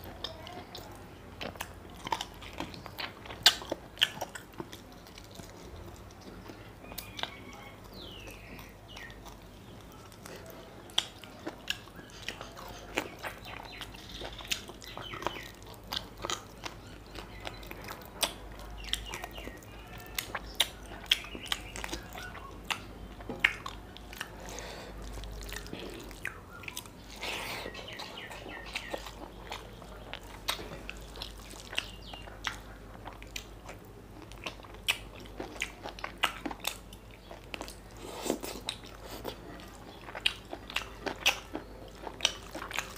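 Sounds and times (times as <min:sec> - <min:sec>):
man chewing with lip smacks: 0:00.0 - 0:42.9.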